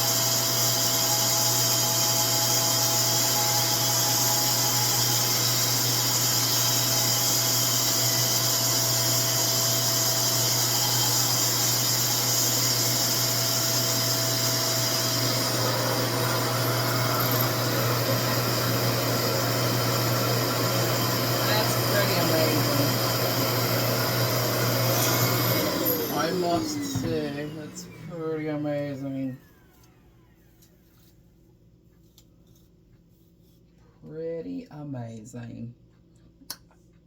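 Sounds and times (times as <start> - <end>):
hair dryer whirring hum: 0.0 - 30.5.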